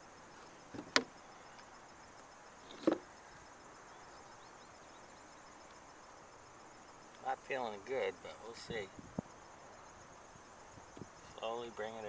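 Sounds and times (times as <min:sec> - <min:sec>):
faint insect drone: 0:00.0 - 0:12.0.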